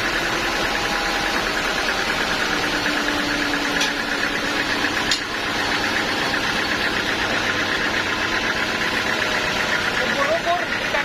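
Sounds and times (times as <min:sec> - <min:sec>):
sawmill engine pulsing: 0:00.0 - 0:11.0.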